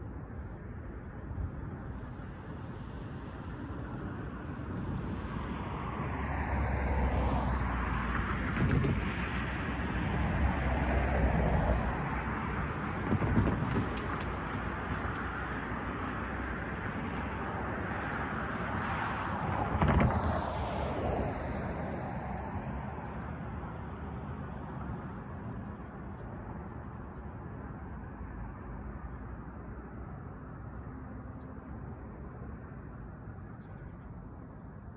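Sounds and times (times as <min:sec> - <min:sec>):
vehicles passing close by: 0:00.0 - 0:34.9.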